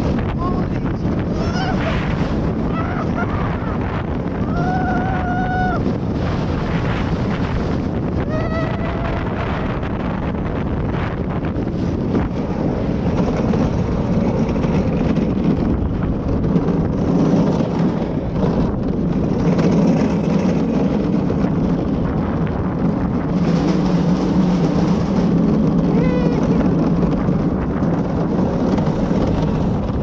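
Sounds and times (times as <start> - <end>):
cart wheels rolling on concrete: 0.0 - 30.0
wind rushing over microphone: 0.0 - 30.0.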